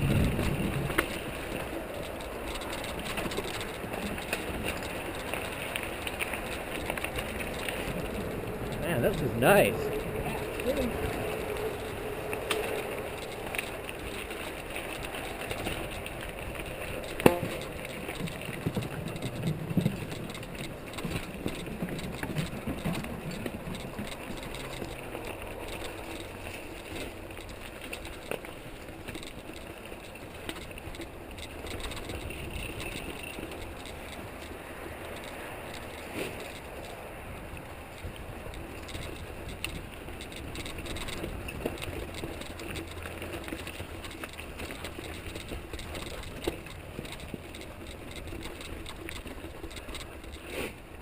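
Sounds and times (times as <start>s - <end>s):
bike chain and frame rattling: 0.0s - 51.0s
bike tyres on dirt trail: 0.0s - 51.0s.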